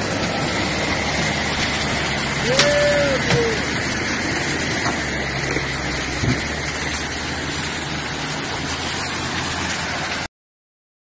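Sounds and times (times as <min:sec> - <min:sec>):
diesel truck engine under load: 0:00.0 - 0:10.3
noisy wash: 0:00.0 - 0:10.3.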